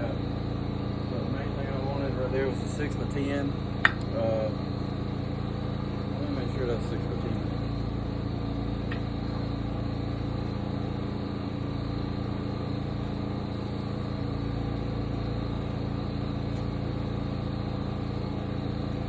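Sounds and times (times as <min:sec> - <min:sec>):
sawmill engine idling: 0:00.0 - 0:19.0.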